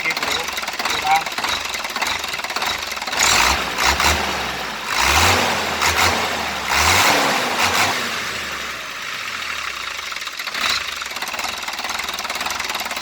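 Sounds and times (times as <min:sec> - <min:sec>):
diesel truck engine idling and revving: 0:00.0 - 0:13.0.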